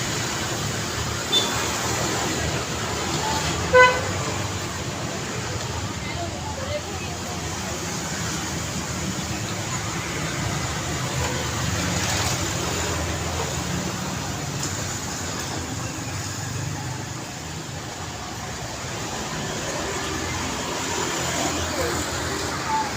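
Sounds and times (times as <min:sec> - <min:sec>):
car engines: 0:00.0 - 0:22.9
motorcycle engines: 0:00.0 - 0:22.9.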